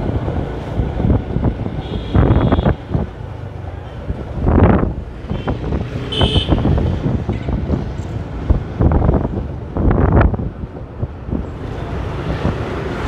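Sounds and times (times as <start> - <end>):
traffic and road noise: 0.0 - 13.0
wind buffeting microphone: 0.0 - 13.0.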